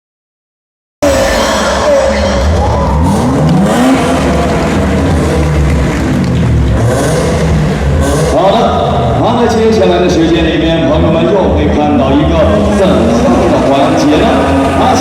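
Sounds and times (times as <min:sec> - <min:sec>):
car engines revving hard: 0:01.0 - 0:15.0
tyres skidding: 0:01.0 - 0:15.0.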